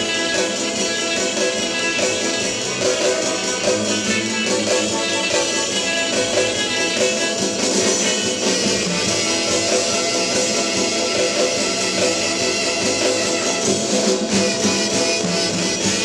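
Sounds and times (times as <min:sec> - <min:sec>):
instrumental rock and roll with guitar: 0:00.0 - 0:16.0.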